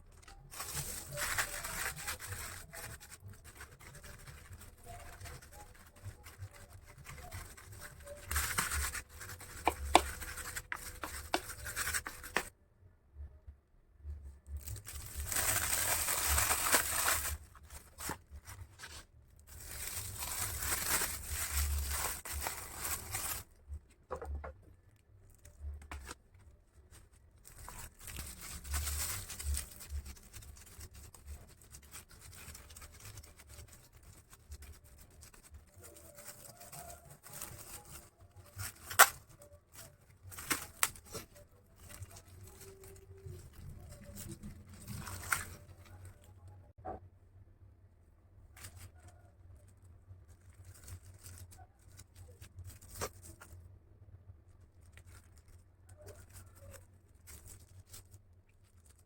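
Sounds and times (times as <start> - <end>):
rustling: 0.0 - 12.5, 14.4 - 47.0, 48.5 - 53.6, 54.5 - 59.0.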